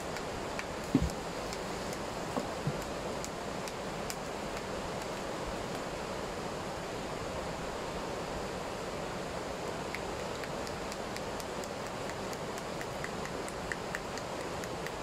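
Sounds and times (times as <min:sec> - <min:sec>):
river water rushing over weir: 0:00.0 - 0:15.0.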